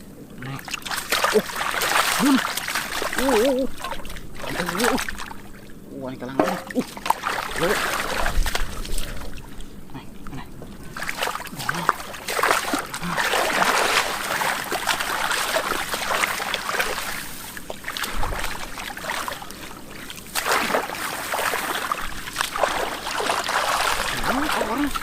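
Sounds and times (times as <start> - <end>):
muddy water splashing: 0.0 - 25.0.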